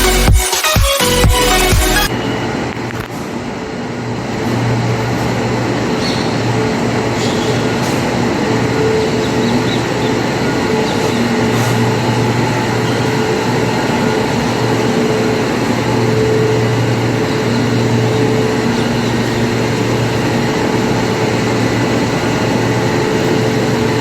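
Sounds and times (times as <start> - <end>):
monorail train running: 0.0 - 24.0.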